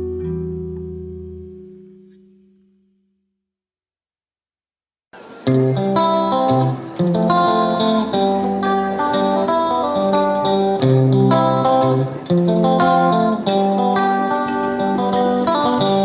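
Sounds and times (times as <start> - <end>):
plucked guitar music: 0.0 - 2.8, 5.2 - 16.0.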